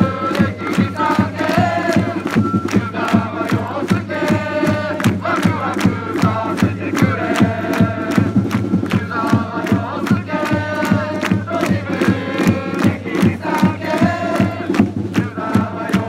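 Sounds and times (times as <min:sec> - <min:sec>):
crowd chanting in unison: 0:00.0 - 0:16.0.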